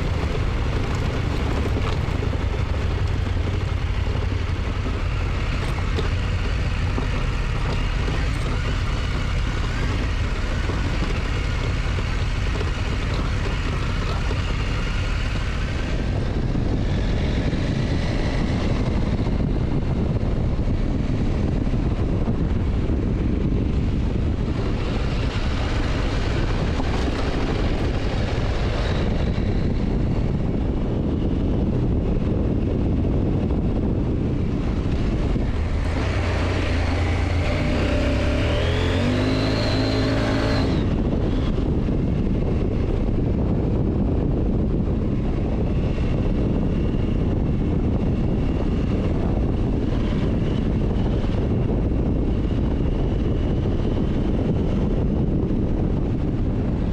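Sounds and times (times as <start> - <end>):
motorcycle engine running: 0.0 - 56.9
road noise: 0.0 - 56.9
wind rushing: 0.0 - 56.9.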